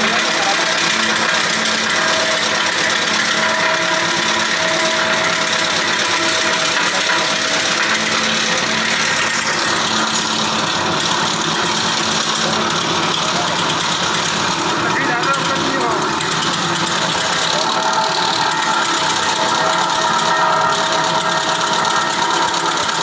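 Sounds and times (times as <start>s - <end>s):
wood chipper chipping branch: 0.0s - 23.0s.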